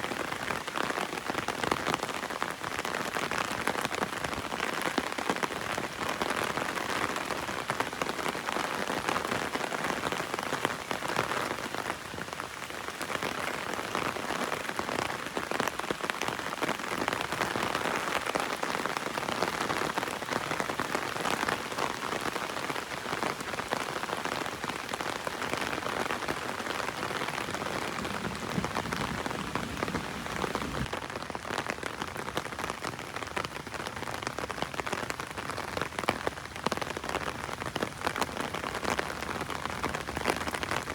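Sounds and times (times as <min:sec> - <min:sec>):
heavy rain on an umbrella: 0:00.0 - 0:40.9.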